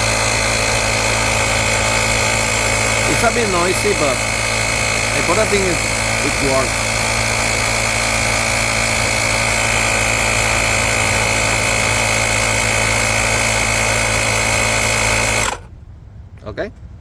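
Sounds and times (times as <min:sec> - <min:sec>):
electric air compressor running: 0:00.0 - 0:15.7.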